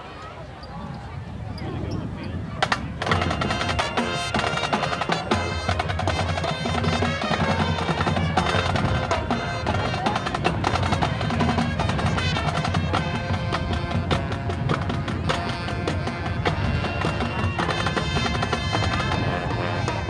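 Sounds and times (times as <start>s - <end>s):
drums beating: 2.6s - 20.0s
brass instruments: 3.0s - 20.0s.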